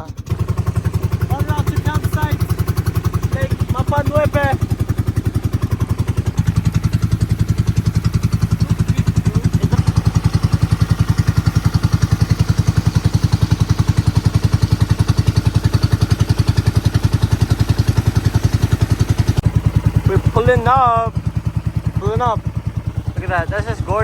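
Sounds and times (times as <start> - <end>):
boat engine chugging: 0.0 - 24.0.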